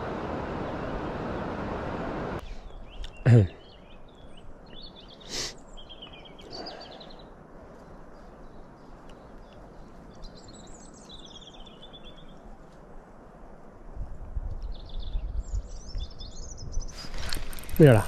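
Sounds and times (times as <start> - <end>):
songbirds trilling: 0.0 - 12.5, 14.6 - 18.0
outdoor background hiss: 0.0 - 18.0.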